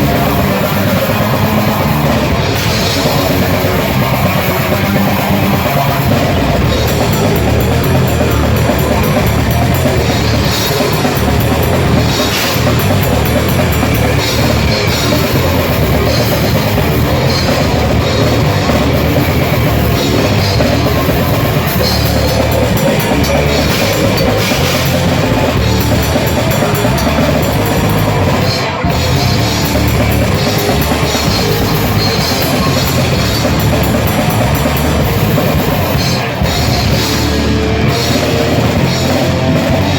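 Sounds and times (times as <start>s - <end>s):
distorted guitars and bass: 0.0s - 39.9s
fast drumming with cymbals: 0.0s - 39.9s.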